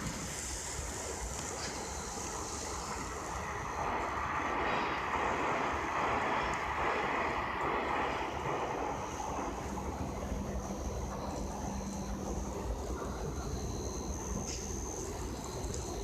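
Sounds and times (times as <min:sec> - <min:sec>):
airplane passing overhead: 0:00.0 - 0:16.0.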